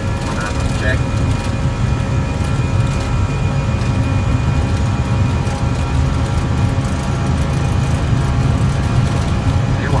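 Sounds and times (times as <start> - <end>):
jet engines at takeoff thrust: 0.0 - 10.0.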